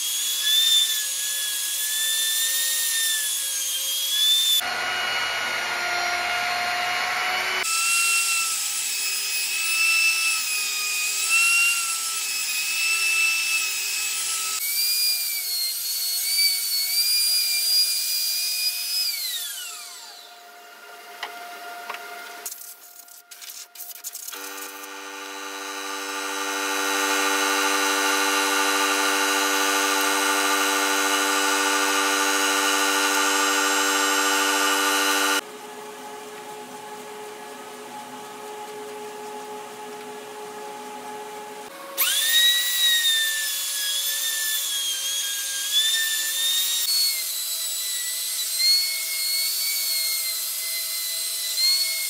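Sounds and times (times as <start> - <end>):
router cutting wood: 0.0 - 22.3, 24.3 - 35.5, 41.7 - 52.0.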